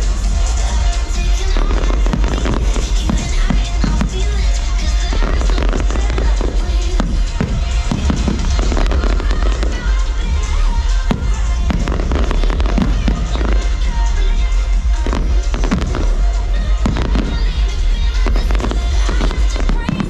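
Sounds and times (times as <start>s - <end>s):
fireworks bangs and crackles: 0.0s - 20.0s
loud show music: 0.0s - 20.0s.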